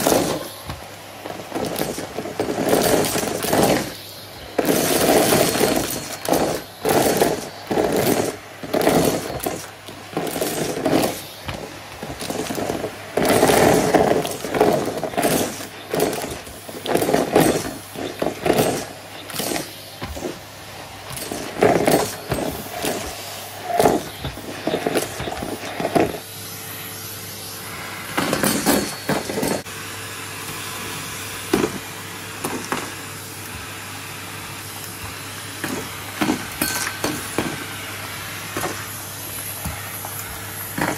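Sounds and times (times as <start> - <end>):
vacuum cleaner motor hum: 0.0 - 40.9.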